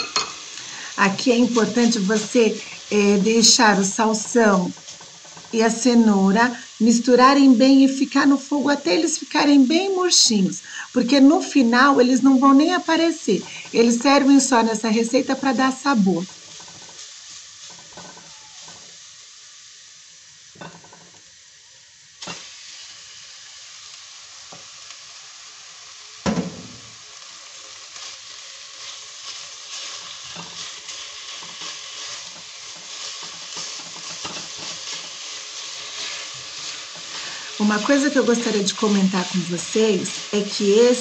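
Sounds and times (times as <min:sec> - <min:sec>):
meat sizzling in a pot: 0:00.0 - 0:41.0.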